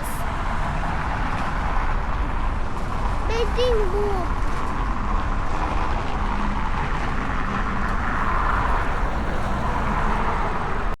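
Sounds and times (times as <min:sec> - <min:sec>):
road traffic rushing hum: 0:00.0 - 0:11.0.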